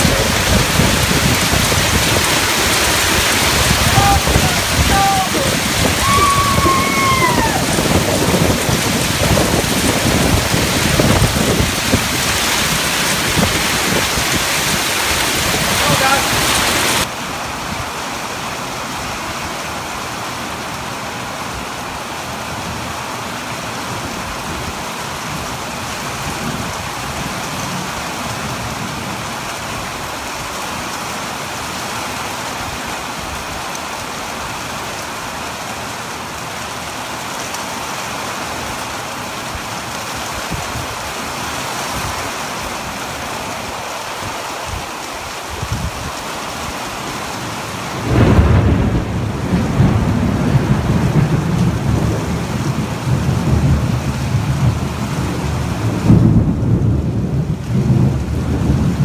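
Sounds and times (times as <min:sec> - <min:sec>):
heavy rain hissing: 0:00.0 - 0:24.6, 0:25.2 - 0:59.0.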